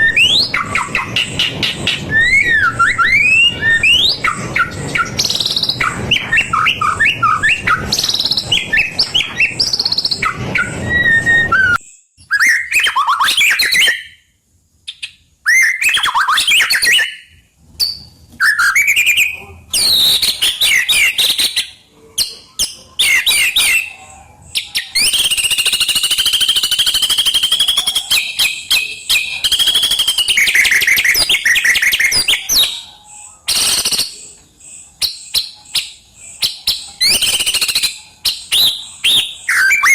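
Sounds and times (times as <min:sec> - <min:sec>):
bird singing whistled phrases: 0:00.0 - 0:14.3, 0:14.9 - 0:34.4, 0:35.0 - 0:39.9.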